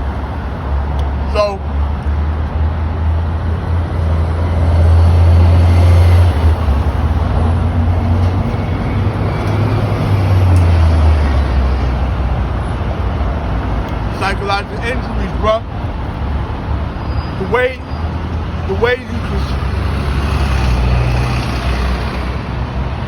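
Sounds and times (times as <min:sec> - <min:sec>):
vehicle road noise: 0:00.0 - 0:23.0.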